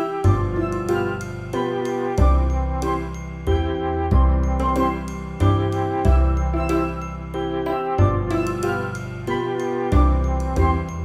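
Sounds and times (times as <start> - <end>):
soft instrumental christmas music: 0.0 - 11.0.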